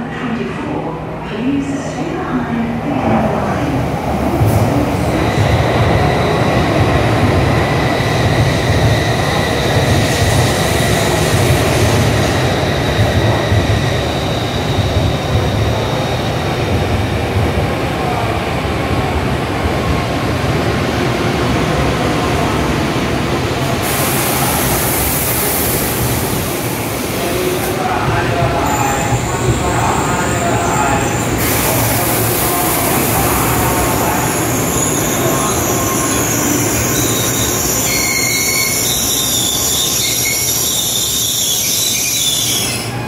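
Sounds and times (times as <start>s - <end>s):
train rumbling into platform: 0.0s - 43.0s.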